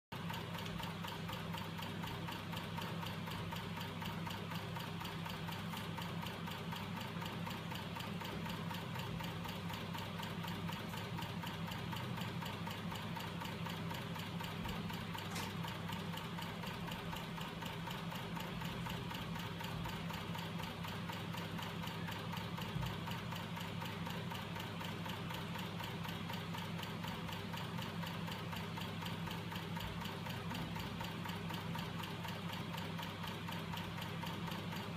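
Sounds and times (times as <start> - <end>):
mechanical ticking: 0.2 - 34.9.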